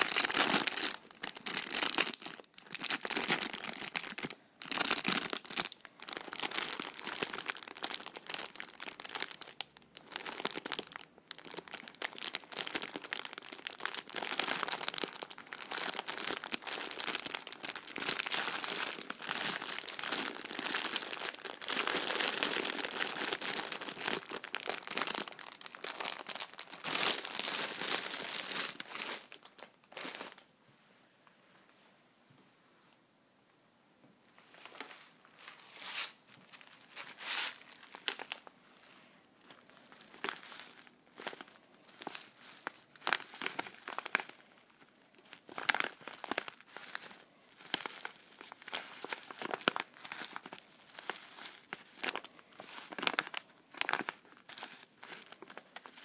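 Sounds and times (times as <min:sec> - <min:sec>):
plastic bag crinkling: 0:00.0 - 0:30.5, 0:36.3 - 0:38.5, 0:39.4 - 0:56.0.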